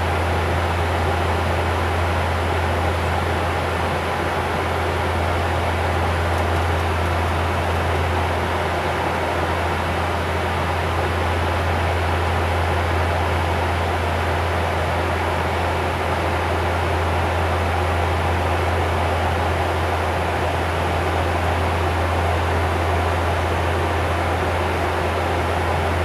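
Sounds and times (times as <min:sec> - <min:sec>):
airflow and air-conditioning rush: 0:00.0 - 0:26.0
propeller drone: 0:00.0 - 0:26.0.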